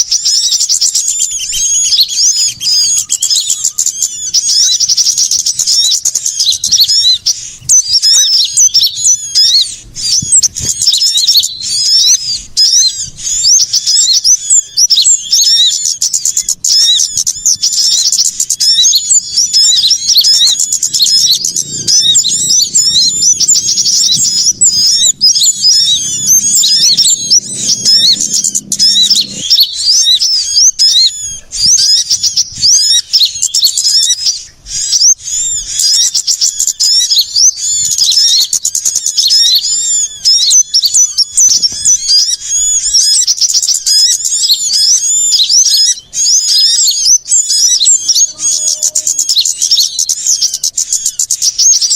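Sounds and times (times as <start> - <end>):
songbirds chirping and twittering: 0.0 - 51.9.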